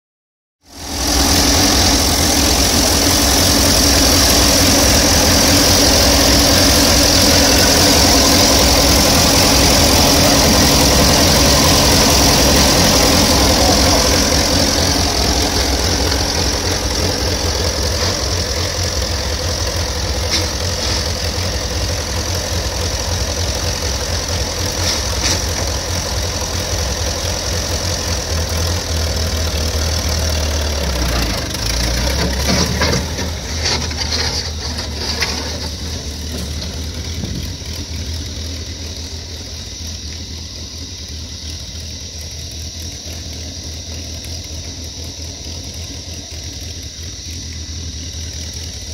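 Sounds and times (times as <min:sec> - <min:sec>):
tractor engine idling: 0:00.7 - 0:48.9.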